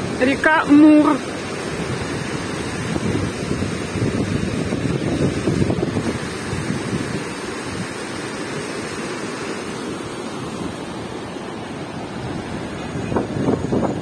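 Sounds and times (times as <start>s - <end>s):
river rushing through rapids: 0.0s - 14.0s
wind buffeting microphone: 0.0s - 14.0s.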